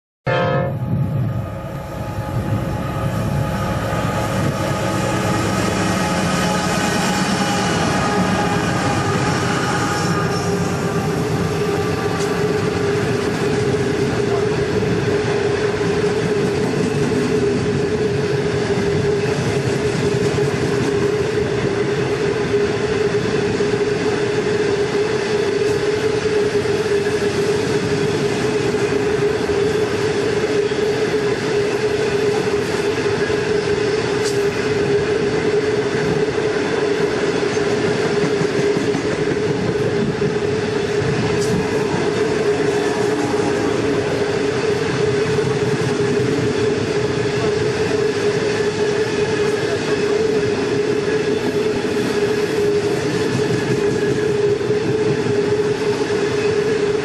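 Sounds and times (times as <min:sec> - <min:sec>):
train wheels rolling on rail: 0:00.9 - 0:57.0.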